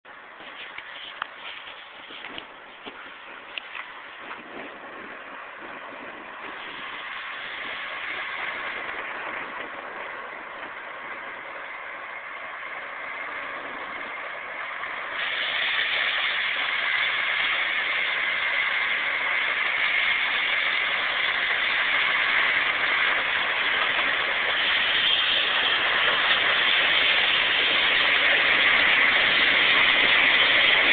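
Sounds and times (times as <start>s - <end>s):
combine harvester running: 0.1s - 30.9s.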